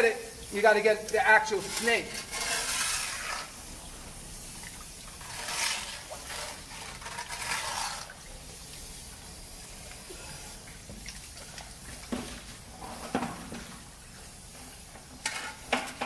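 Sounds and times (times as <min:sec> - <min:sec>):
water rushing from hose: 0:00.0 - 0:16.0.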